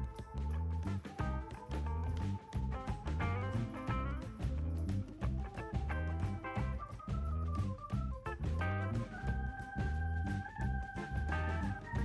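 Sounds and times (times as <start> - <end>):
music with pulsing bass: 0.0 - 12.0.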